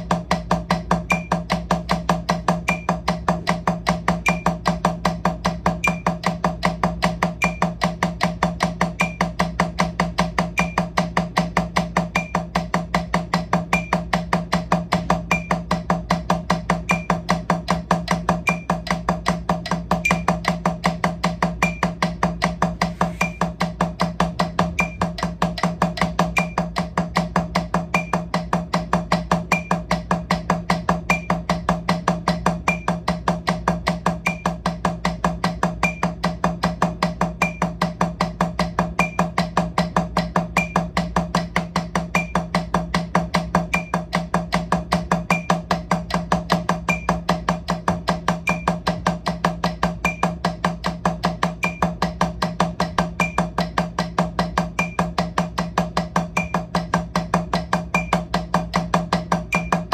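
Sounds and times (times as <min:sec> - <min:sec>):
drumsticks on practice pad: 0:00.0 - 0:59.9.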